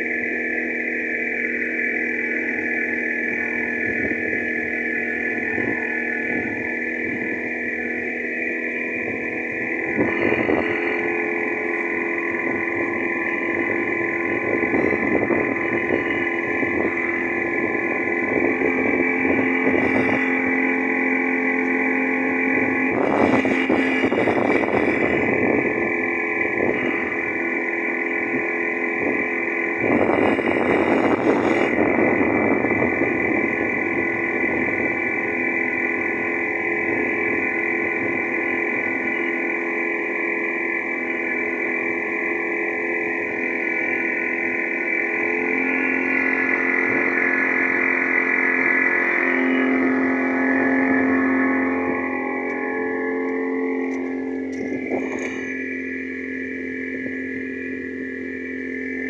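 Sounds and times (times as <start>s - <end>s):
boat motor running: 0.0s - 59.0s
rushes of noise: 0.0s - 59.0s.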